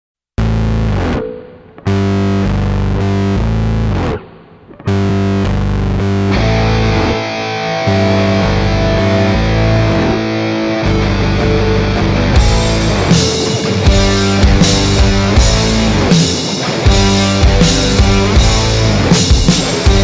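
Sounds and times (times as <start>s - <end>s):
rock music with distorted guitar: 0.4s - 20.0s.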